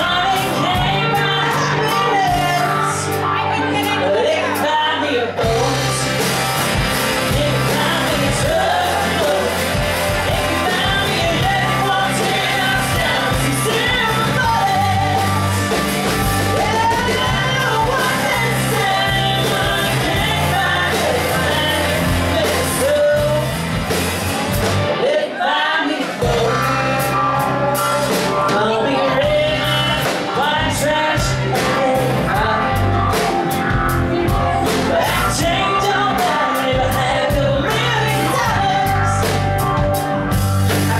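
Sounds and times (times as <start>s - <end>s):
woman singing lead: 0.0s - 24.0s, 24.8s - 40.9s
country band playing: 0.0s - 40.9s.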